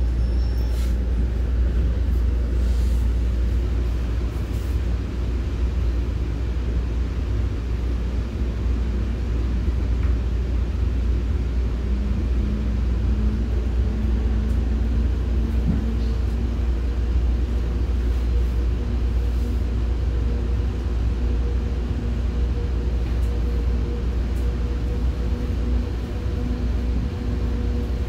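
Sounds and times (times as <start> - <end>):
train running rumble: 0.0 - 28.0.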